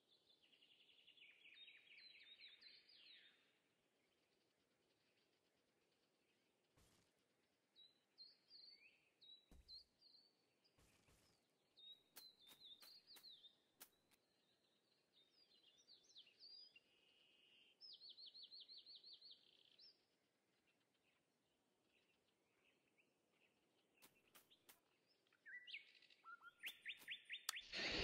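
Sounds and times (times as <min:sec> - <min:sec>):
faint bird chirps and songs: 0:00.0 - 0:28.0.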